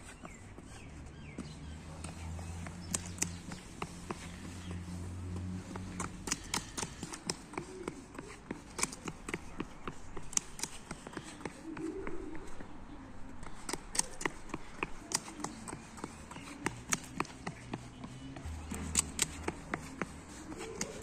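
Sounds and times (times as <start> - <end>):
child's boots on wet asphalt: 0.0 - 21.0.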